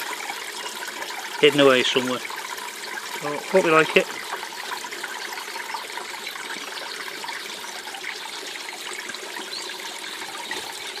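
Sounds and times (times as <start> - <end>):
water feature trickling: 0.0 - 11.0.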